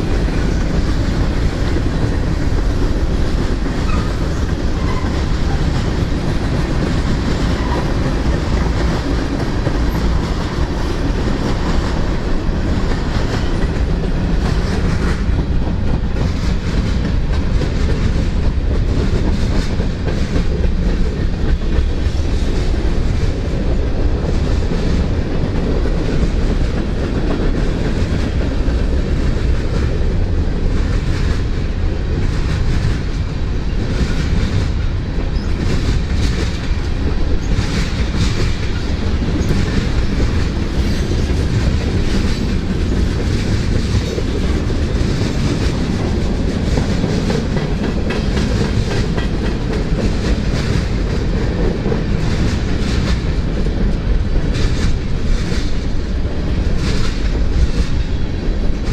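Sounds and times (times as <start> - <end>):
freight train cars rumbling past: 0.0 - 58.9
wheels clicking over rail joints: 0.0 - 58.9.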